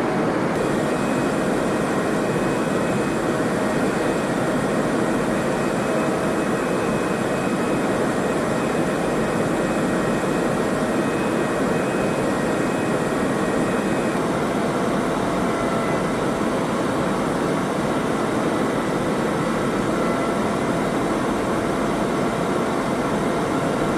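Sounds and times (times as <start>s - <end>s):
aircraft engine drone: 0.0s - 23.9s.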